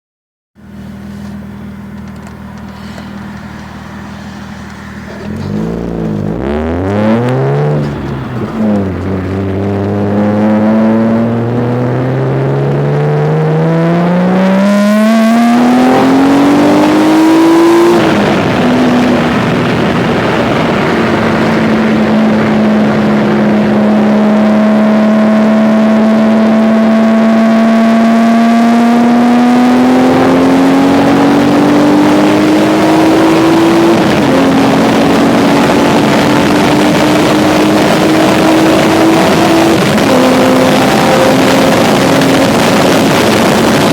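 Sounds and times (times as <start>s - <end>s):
car engine accelerating hard: 0.6s - 43.9s
road and wind noise: 0.6s - 43.9s.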